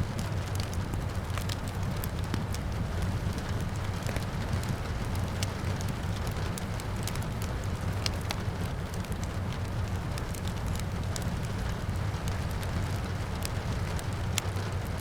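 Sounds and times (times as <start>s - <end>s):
steady rain: 0.0s - 15.0s
wood fire crackling and popping: 0.0s - 15.0s.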